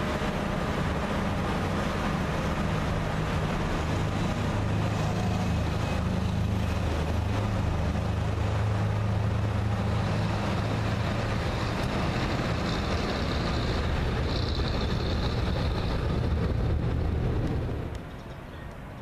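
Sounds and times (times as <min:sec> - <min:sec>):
jet engine whine: 0:00.0 - 0:19.0
jet engines rumbling: 0:00.0 - 0:19.0.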